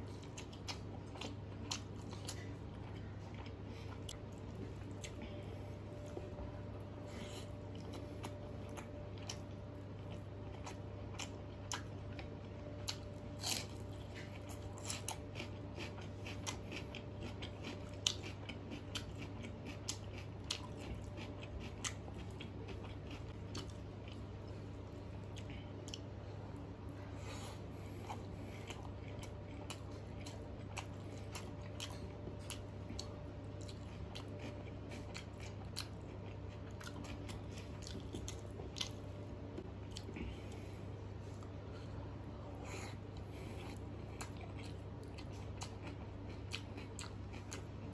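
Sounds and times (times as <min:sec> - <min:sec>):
person chewing food: 0:00.0 - 0:47.9
steady low hum: 0:00.0 - 0:47.9.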